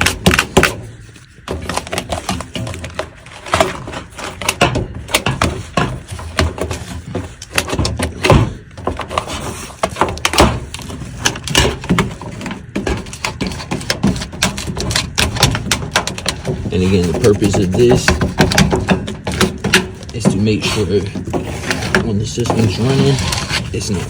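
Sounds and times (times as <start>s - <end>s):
squeegee scraping metal: 0.0s - 24.0s.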